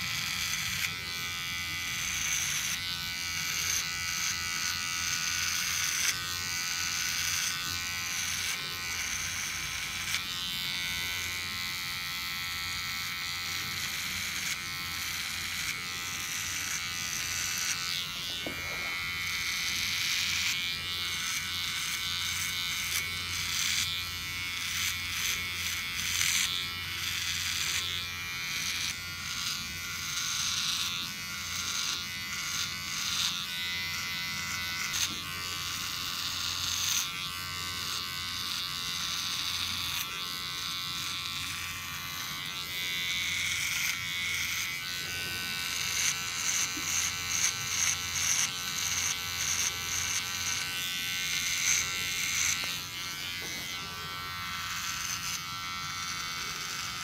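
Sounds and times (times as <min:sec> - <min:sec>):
electric hair clippers buzzing: 0:00.0 - 0:57.0.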